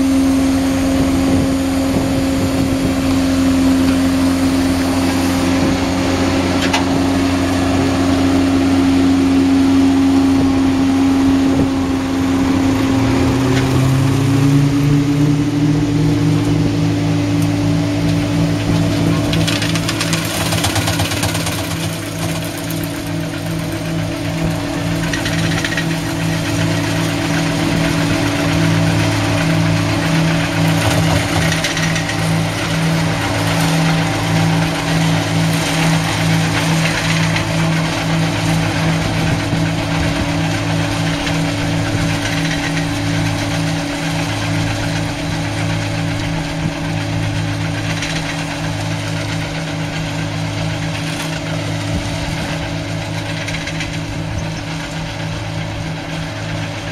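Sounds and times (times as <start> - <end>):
harvester engine throbbing: 0.0 - 56.9.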